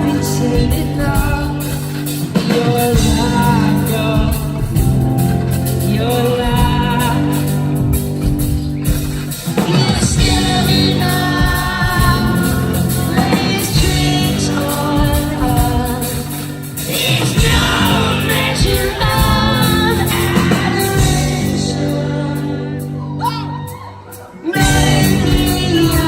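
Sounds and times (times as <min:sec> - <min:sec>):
live rock band with singing: 0:00.0 - 0:26.0.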